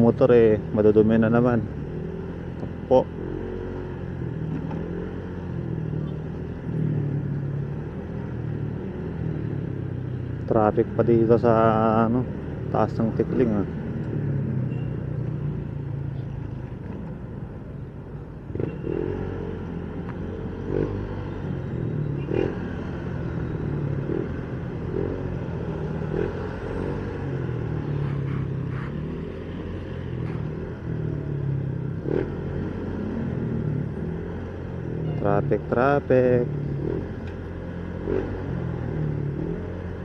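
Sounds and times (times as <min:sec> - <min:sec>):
road traffic: 0:00.0 - 0:40.0.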